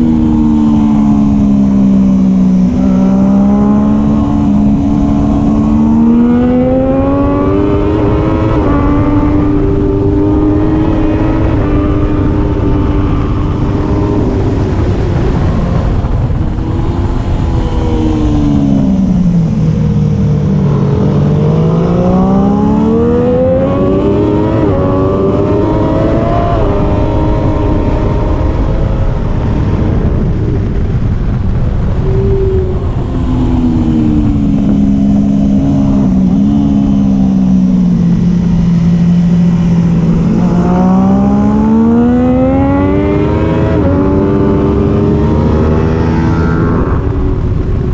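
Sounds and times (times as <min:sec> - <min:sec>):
motorcycle engine revving: 0:00.0 - 0:47.9
wind rushing: 0:00.0 - 0:47.9.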